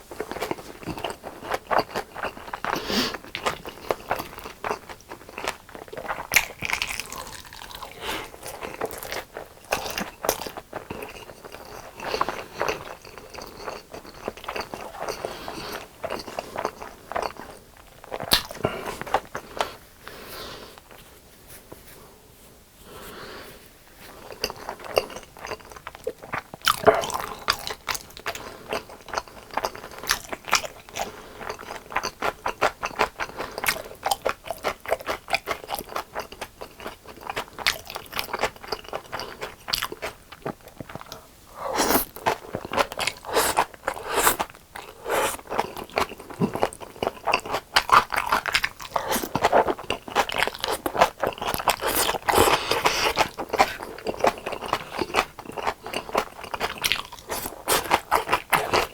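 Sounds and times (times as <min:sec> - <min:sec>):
crunchy chewing of fried chicken: 0:00.0 - 0:21.2, 0:22.9 - 0:58.9.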